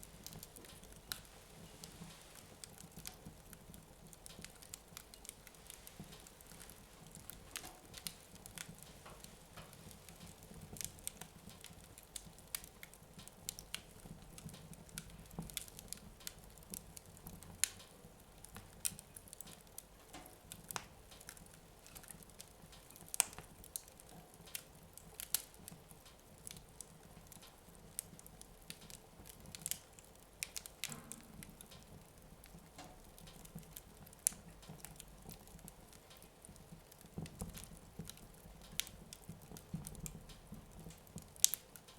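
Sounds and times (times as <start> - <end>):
small snaps and pops: 0.0 - 41.9
wood fire crackling: 0.0 - 41.9.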